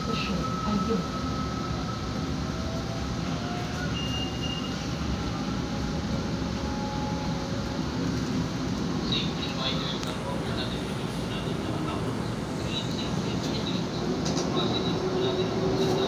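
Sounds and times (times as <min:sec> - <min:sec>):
faint train whine: 0:00.0 - 0:16.0
train wheels rumbling on rails: 0:00.0 - 0:16.0.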